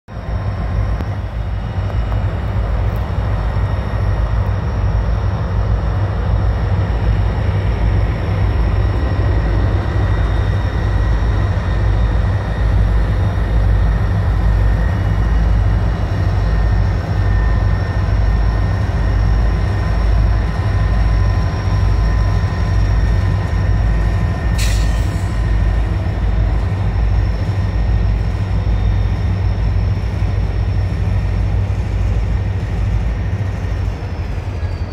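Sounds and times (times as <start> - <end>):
freight train rumbling past: 0.1 - 34.9.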